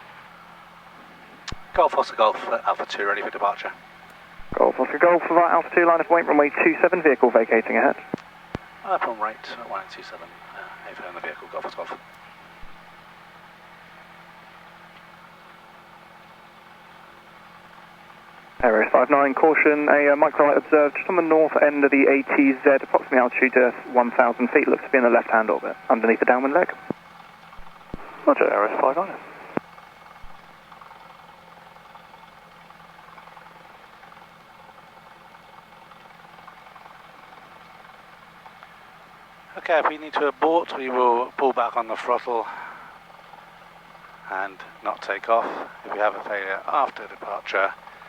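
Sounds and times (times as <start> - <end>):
faint piston aircraft engine idling: 0.0 - 48.0.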